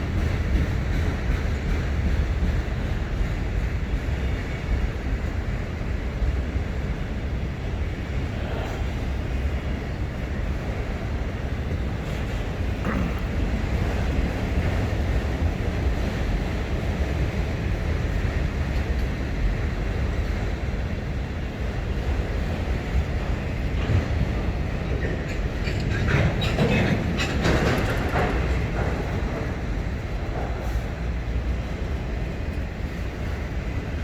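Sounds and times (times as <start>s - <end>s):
freight train rumble: 0.0s - 34.0s.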